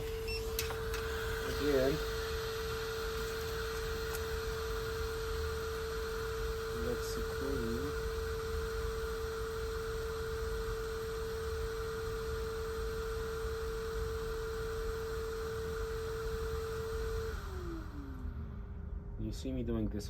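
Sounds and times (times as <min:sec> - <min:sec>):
electric blower motor humming: 0:00.0 - 0:19.2.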